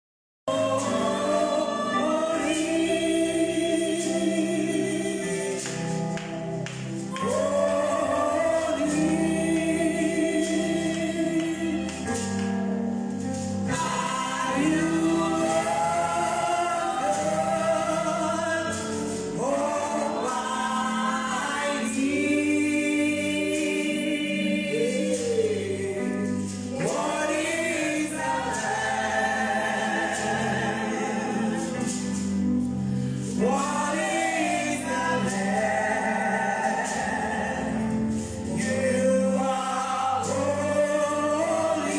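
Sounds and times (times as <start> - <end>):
gospel choir singing: 0.5 - 41.9
instrumental backing: 0.5 - 41.9.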